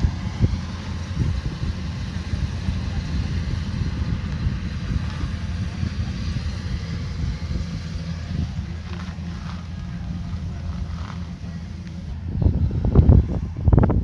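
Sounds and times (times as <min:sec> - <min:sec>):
combine harvester engine rumble: 0:00.0 - 0:14.0.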